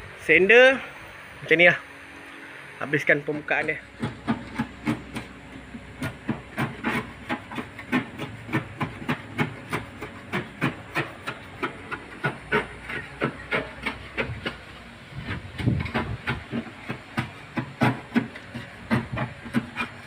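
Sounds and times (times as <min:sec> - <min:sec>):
hand sanding metal panel: 0:02.8 - 0:20.0.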